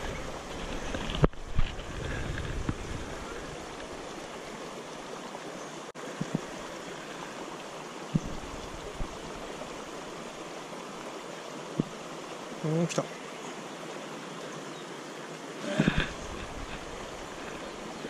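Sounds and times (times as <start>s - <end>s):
river rushing over stones: 0.0s - 18.0s.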